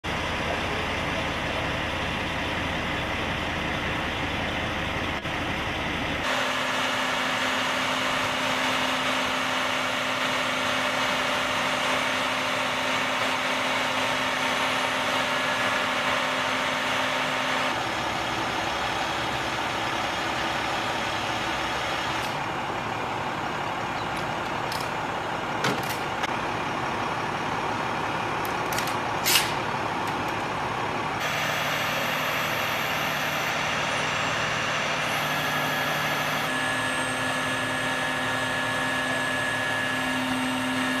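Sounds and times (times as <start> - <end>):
heavy machinery engine running: 0.1 - 41.0.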